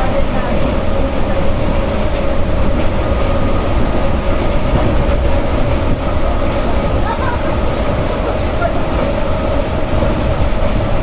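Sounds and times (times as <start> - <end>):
constant hum: 0.0 - 11.0
train wheels rumbling on rails: 0.0 - 11.0.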